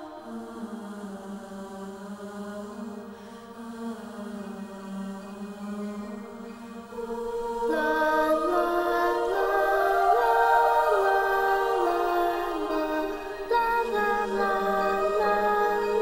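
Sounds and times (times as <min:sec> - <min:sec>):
slow choir-like music: 0:00.0 - 0:16.0.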